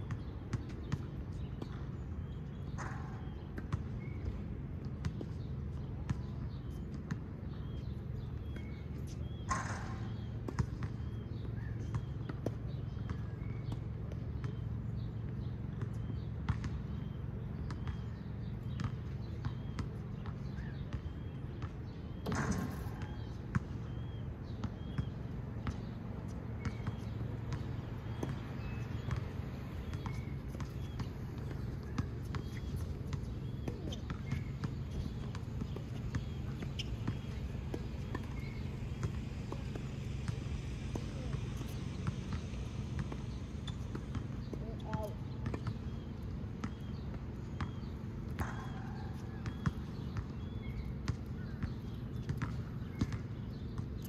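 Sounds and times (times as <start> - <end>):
steady low hum: 1.4 - 54.0.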